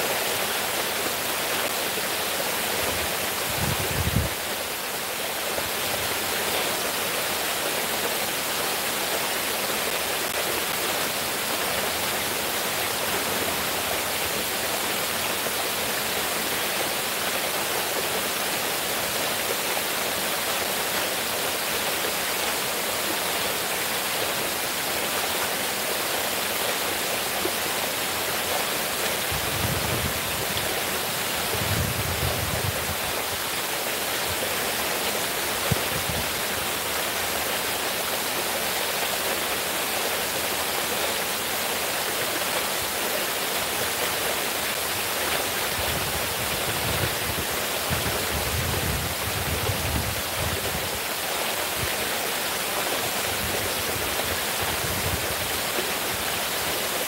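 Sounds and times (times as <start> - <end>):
fountain water splashing: 0.0 - 57.0.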